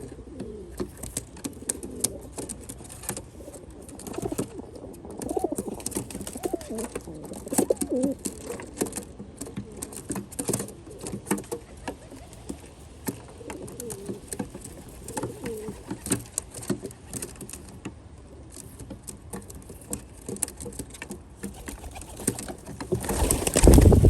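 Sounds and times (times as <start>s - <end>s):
pigeons cooing: 0.0s - 17.1s, 21.5s - 24.0s.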